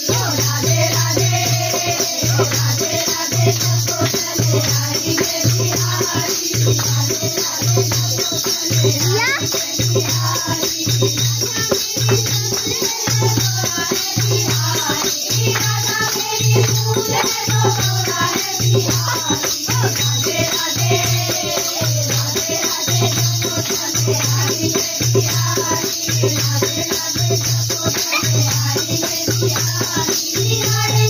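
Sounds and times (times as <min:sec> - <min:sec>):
women singing devotional song: 0:00.0 - 0:31.0
hand-clapping: 0:00.1 - 0:31.0.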